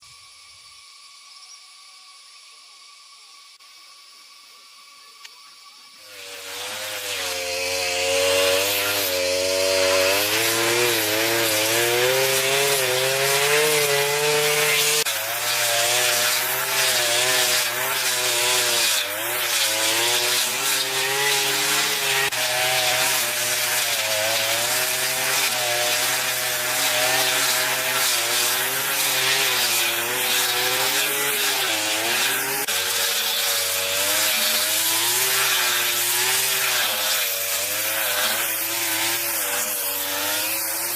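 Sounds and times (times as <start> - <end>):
saw cutting through wood: 6.0 - 40.9.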